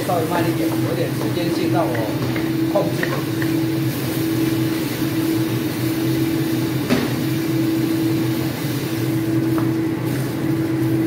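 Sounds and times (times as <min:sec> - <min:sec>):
range hood fan humming: 0:00.0 - 0:11.0.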